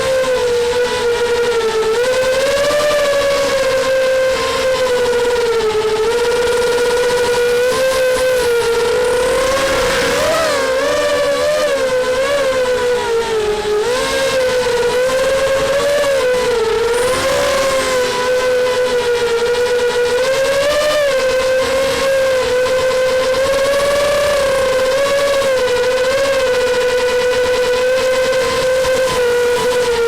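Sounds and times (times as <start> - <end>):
quadcopter motors whining: 0.0 - 30.0.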